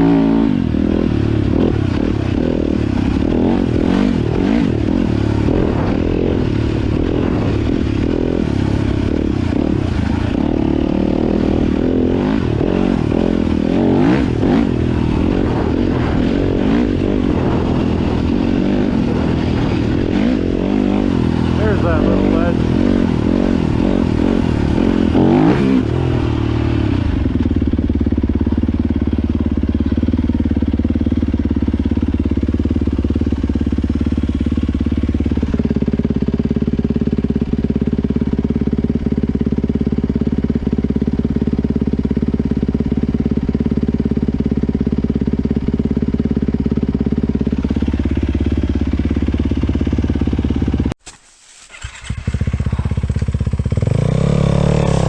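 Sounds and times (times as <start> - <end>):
four-stroke dirt bike engine: 0.0 - 55.0.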